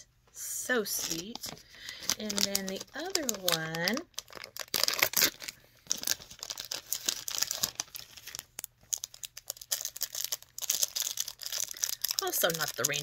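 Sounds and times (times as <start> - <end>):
plastic package crinkling and tearing: 1.0 - 13.0.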